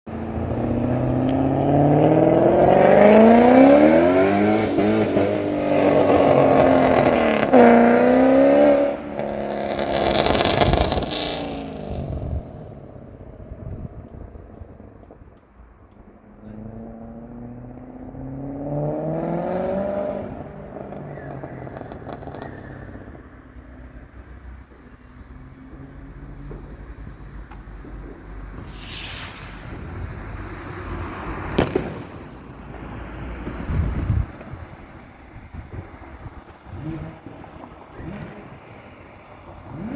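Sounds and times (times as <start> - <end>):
car engine revving: 0.1 - 15.3, 16.1 - 32.0, 32.7 - 39.9.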